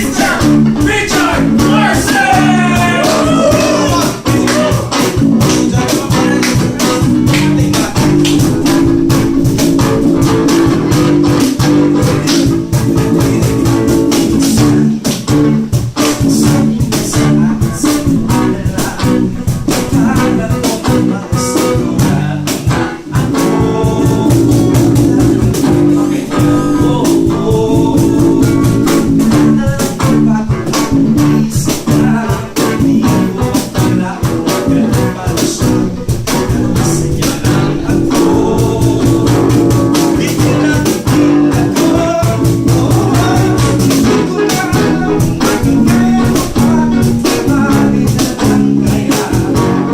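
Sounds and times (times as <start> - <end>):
driving drum beat: 0.0 - 49.9
loud electric guitars: 0.0 - 49.9.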